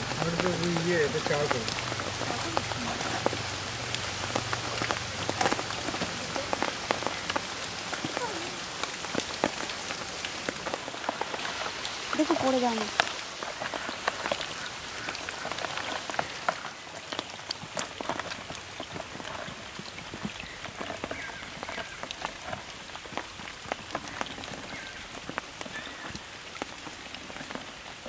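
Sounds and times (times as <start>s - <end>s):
rain on pond surface: 0.0s - 28.0s.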